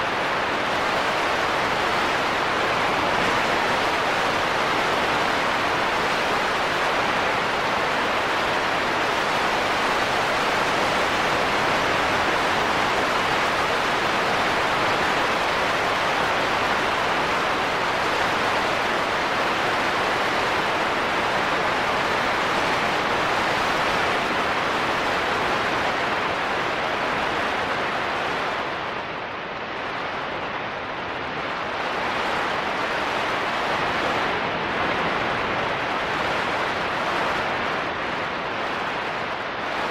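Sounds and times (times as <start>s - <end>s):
steady rushing static hiss: 0.0s - 39.9s.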